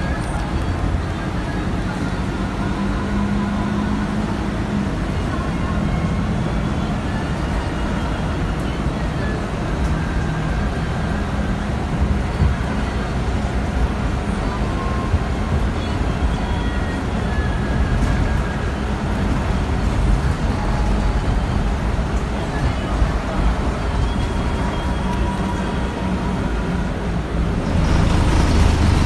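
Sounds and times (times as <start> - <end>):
bus diesel engine drone: 0.0 - 29.0
road and body rumble: 0.0 - 29.0.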